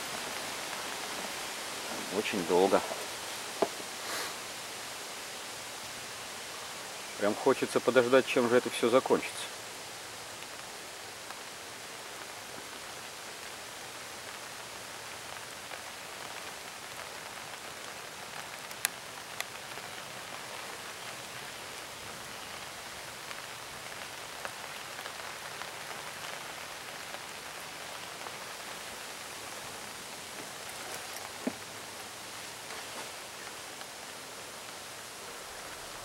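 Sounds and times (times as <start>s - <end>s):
rain pattering: 0.0s - 36.0s.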